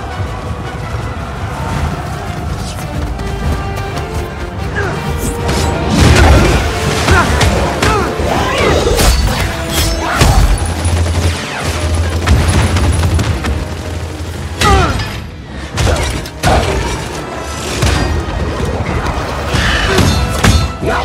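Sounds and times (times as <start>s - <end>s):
film music: 0.0s - 21.0s.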